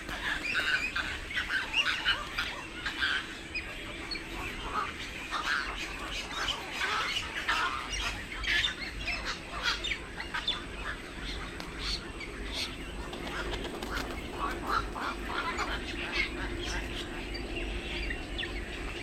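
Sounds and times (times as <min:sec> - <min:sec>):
birds chirping and squawking: 0:00.0 - 0:19.0.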